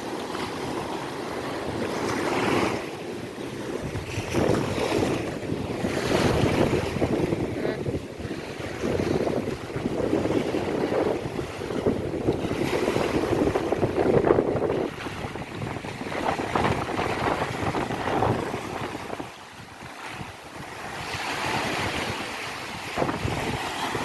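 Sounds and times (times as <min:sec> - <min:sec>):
ocean waves washing onto beach: 0:00.0 - 0:24.0
wind buffeting microphone: 0:00.6 - 0:24.0.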